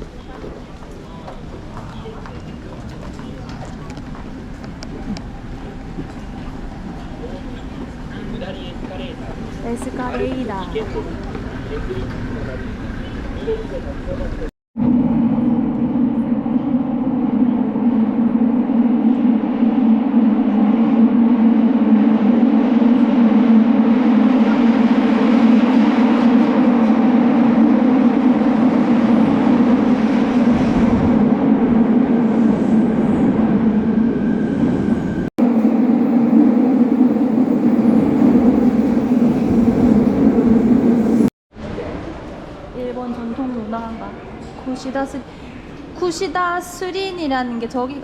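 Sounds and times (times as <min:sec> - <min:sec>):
subway train running: 0:00.0 - 0:48.0.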